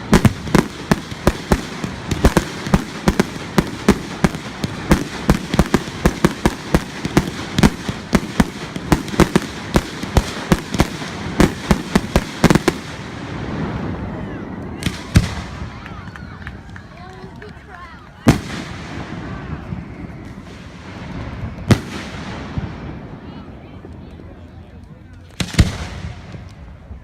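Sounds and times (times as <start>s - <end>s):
fireworks bangs and cracks: 0.0s - 27.0s.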